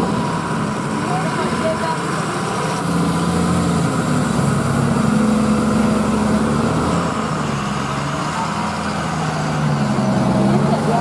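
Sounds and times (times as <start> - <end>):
diesel truck engine at low speed: 0.0 - 11.0.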